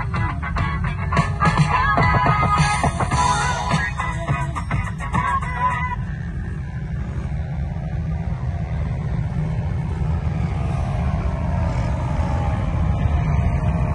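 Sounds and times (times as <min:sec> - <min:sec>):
sand rail engine rumble: 0:00.0 - 0:13.9.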